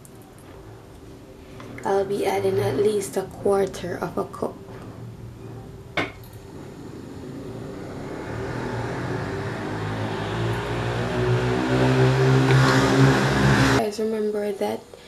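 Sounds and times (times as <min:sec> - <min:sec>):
vehicle engine humming: 0:01.2 - 0:13.8.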